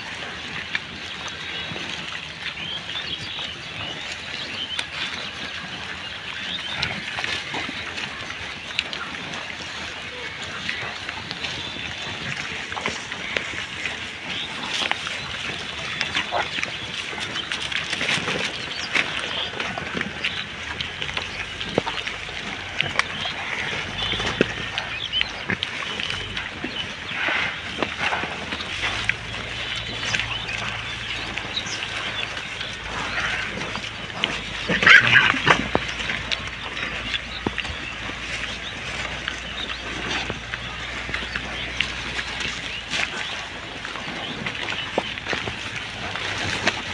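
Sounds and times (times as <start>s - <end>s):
pigs grunting: 0.0s - 46.9s
rustling plastic and dry leaves: 0.0s - 46.9s.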